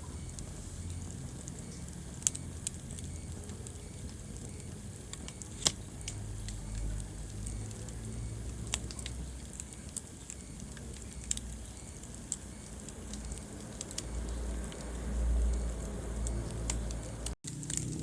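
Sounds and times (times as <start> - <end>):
fire crackling and popping: 0.0 - 18.0
rumble of flames: 0.0 - 18.0.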